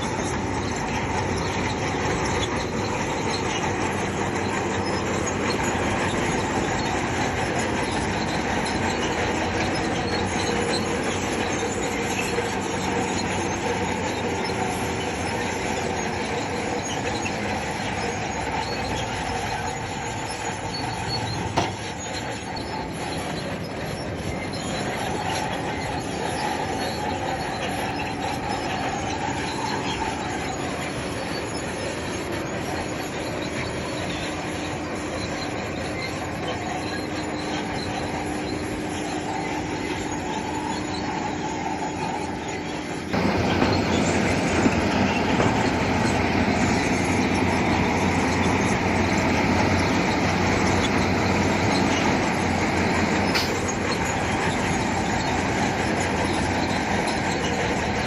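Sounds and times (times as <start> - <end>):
bulldozer engine running: 0.0 - 58.0
steel tracks squealing and clanking: 0.0 - 58.0.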